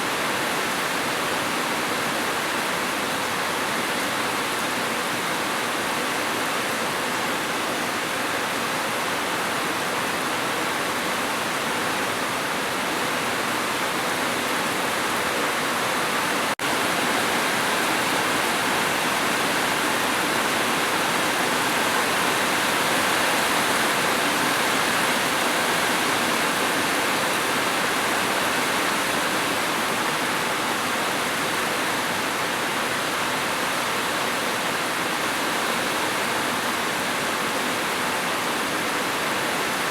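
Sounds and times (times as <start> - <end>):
steady dense rain: 0.0 - 39.9.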